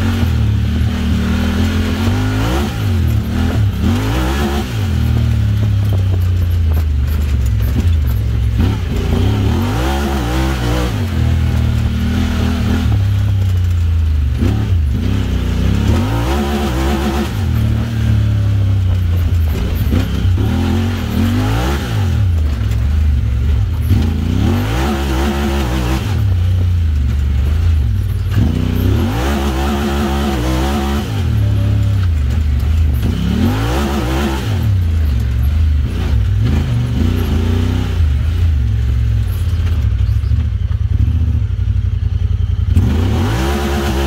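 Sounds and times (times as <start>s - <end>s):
engine revving: 0.0s - 39.9s, 42.3s - 44.0s.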